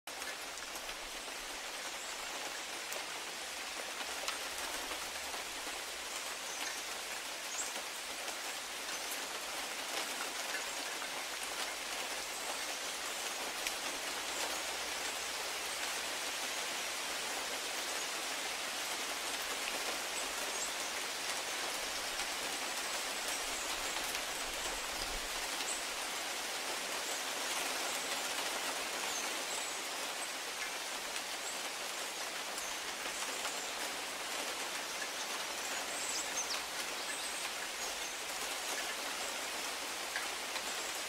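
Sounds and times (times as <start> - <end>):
sharp ticks of raindrops: 0.1 - 41.0
steady rain hiss: 0.1 - 41.0.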